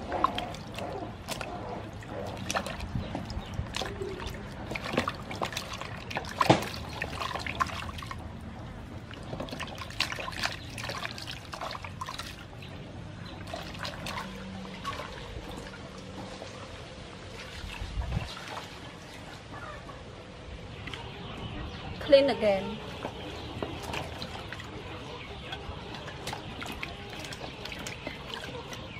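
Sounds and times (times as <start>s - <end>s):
water splashing in basin: 0.0s - 19.3s, 22.7s - 28.9s.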